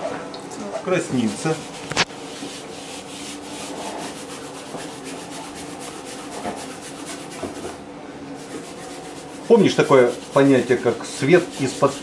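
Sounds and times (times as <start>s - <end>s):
palette knife scraping paint: 1.2s - 7.6s, 8.4s - 12.0s.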